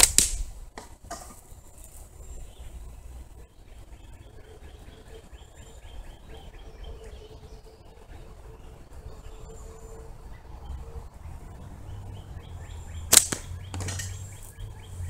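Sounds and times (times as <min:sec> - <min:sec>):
bird singing repeated notes: 0:01.4 - 0:15.0.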